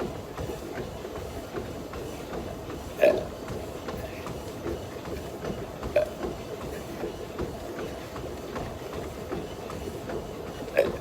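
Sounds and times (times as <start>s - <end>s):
treadmill belt and motor: 0.0s - 11.0s.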